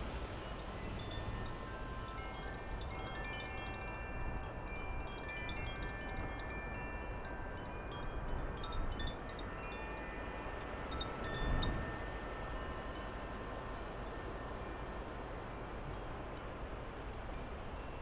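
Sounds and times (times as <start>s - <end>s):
wind rumble on microphone: 0.0s - 18.0s
wind chimes ringing: 0.3s - 18.0s.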